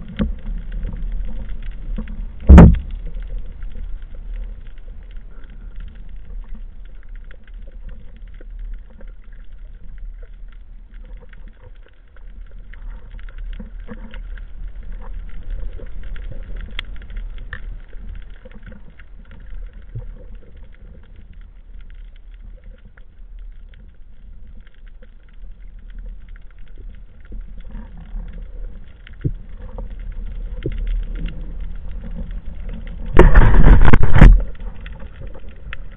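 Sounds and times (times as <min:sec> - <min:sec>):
faint clicks and crackles: 0:00.0 - 0:35.9
underwater low rumble: 0:00.0 - 0:35.9.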